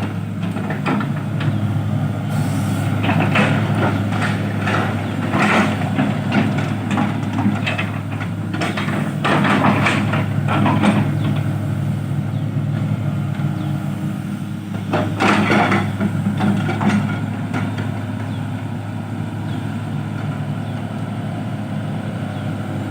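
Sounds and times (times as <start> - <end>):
diesel engine running: 0.0 - 22.9
excavator clatter: 0.0 - 22.9.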